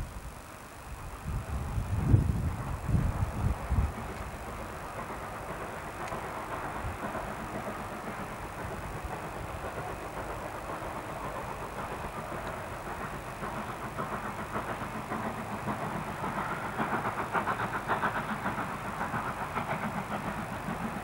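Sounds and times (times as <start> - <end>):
steam hiss and rumble: 0.0 - 21.0
steam locomotive exhaust beats: 0.0 - 21.0.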